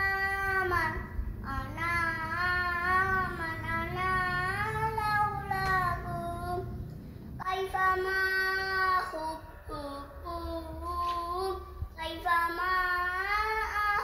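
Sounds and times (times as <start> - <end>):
child singing: 0.0 - 6.8, 7.4 - 14.0.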